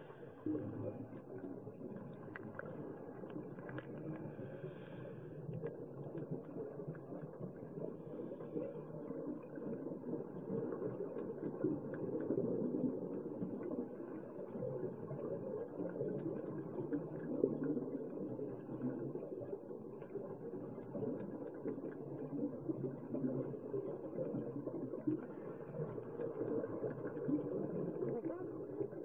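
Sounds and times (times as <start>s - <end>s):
faint underwater clicks: 0.0s - 29.0s.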